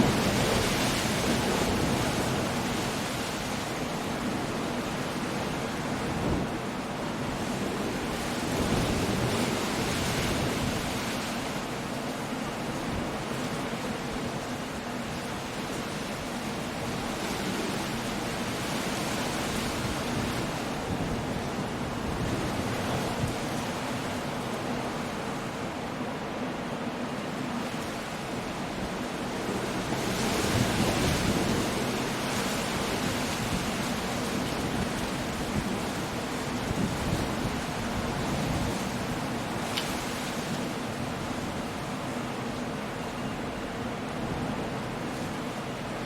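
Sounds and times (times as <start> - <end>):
rain: 0.0 - 46.0
surf breaking on shore: 0.0 - 46.0
wind: 0.0 - 46.0.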